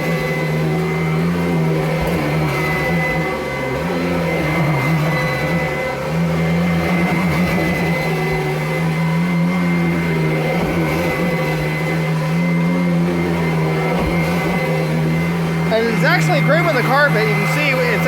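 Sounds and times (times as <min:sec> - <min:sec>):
vacuum cleaner running on carpet: 0:00.0 - 0:18.0.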